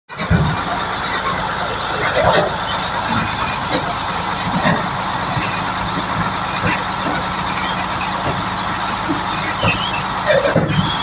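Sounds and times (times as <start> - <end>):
traffic noise: 0.1 - 11.0
truck diesel engine running: 0.1 - 11.0.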